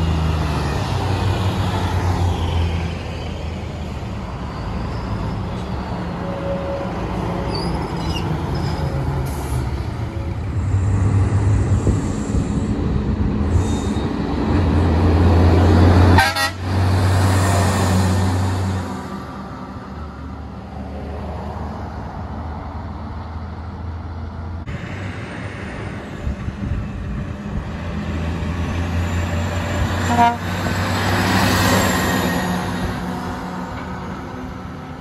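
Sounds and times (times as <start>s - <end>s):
heavy diesel trucks driving past: 0.0s - 35.0s.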